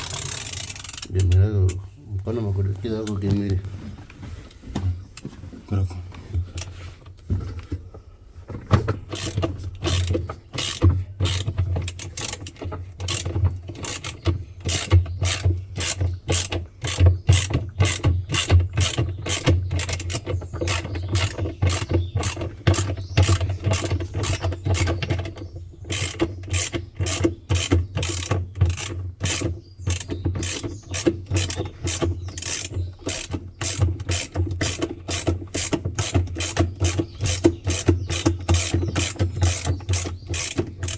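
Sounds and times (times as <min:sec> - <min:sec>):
rapid mechanical clicking: 0:00.0 - 0:01.8, 0:09.1 - 0:40.9.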